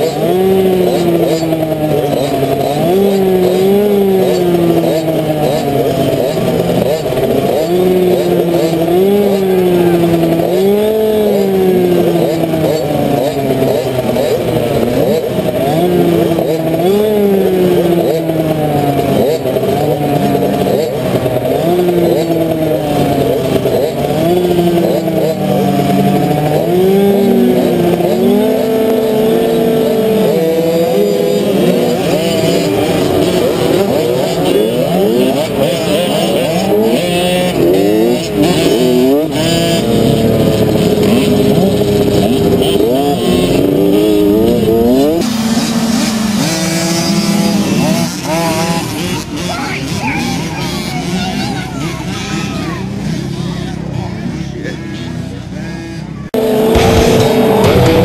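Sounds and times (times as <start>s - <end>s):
motocross bike engine revving: 0.0s - 58.0s
other bike engines: 0.0s - 58.0s.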